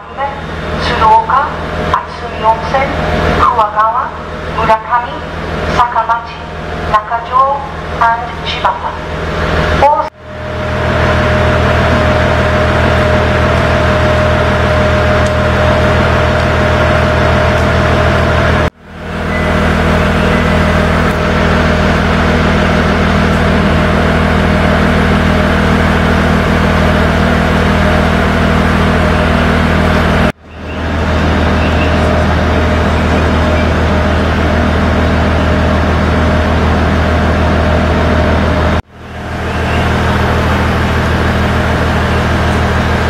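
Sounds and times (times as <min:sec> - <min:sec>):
low hum: 0:00.0 - 0:43.0
train running drone: 0:00.0 - 0:43.0.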